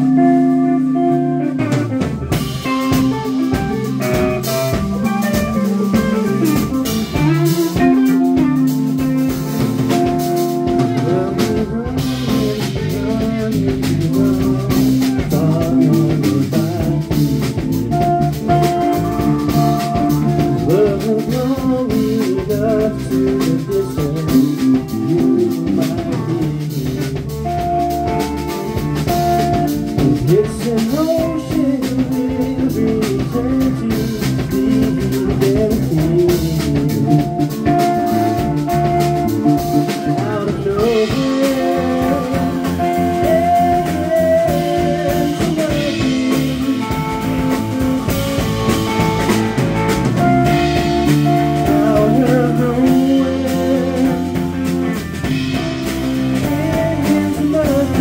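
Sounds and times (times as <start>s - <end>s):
drum kit: 0.0s - 58.0s
electric bass: 0.0s - 58.0s
electric guitar: 0.0s - 58.0s
keyboard: 0.0s - 58.0s.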